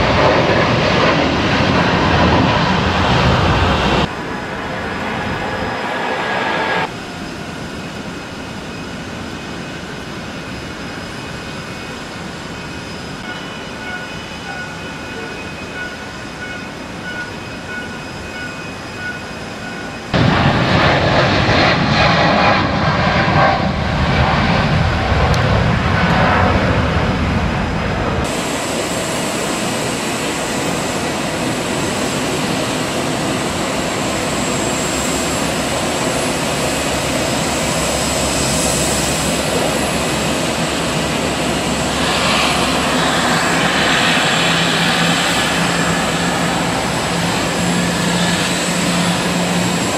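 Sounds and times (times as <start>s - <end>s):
jet engine and airflow noise: 0.0s - 49.9s.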